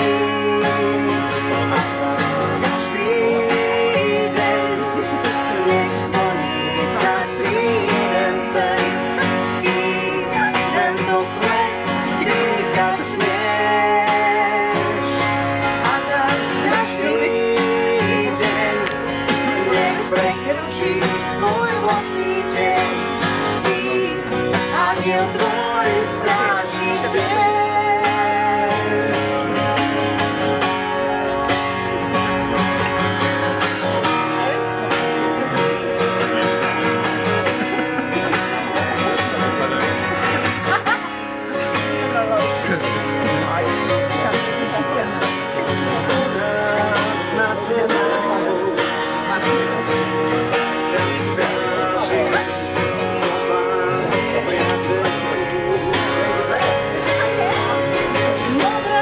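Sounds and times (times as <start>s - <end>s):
person singing: 0.0s - 29.9s, 35.4s - 59.0s
acoustic guitar strumming: 0.0s - 59.0s.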